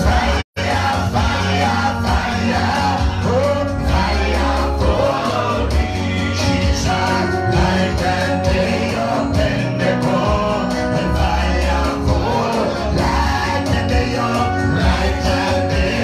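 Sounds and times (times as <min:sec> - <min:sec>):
instrumental backing with bass: 0:00.0 - 0:16.0
man singing into microphone: 0:00.0 - 0:16.0.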